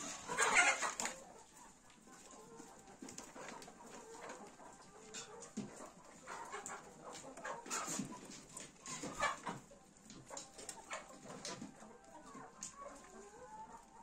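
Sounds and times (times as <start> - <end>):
faint farm animal calls: 0.0 - 14.0.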